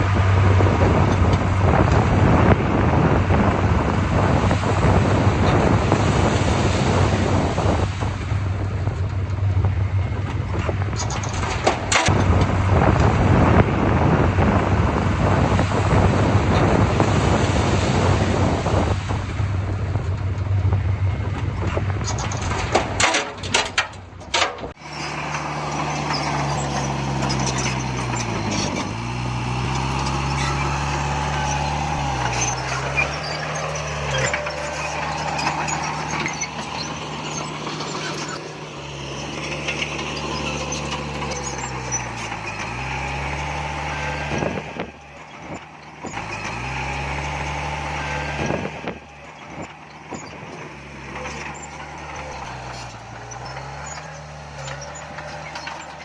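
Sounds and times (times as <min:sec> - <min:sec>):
heavy diesel engines working: 0:00.0 - 0:56.0.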